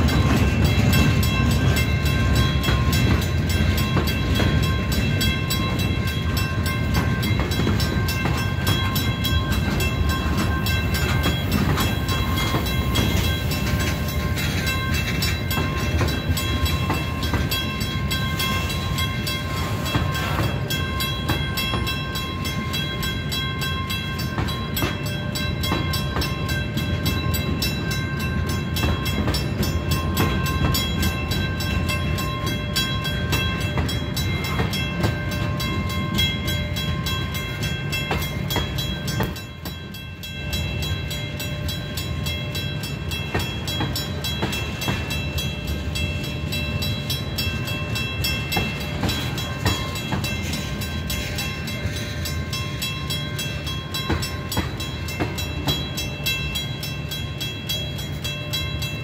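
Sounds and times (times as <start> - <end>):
freight train rumble: 0.0 - 59.0
train wheel clicks: 0.0 - 59.0.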